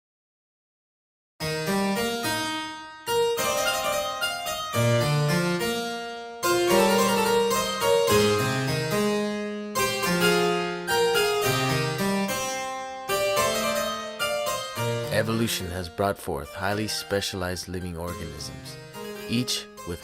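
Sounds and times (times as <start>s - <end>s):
keyboard piece: 1.4s - 20.0s.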